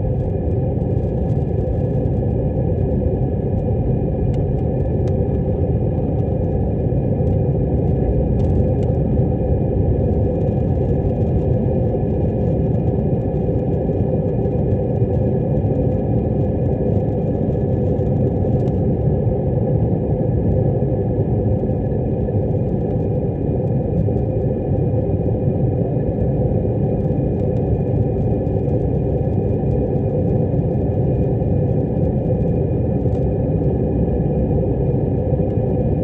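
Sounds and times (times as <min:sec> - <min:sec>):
airplane engines rumbling: 0:00.0 - 0:36.0
faint steady engine whine: 0:00.0 - 0:36.0.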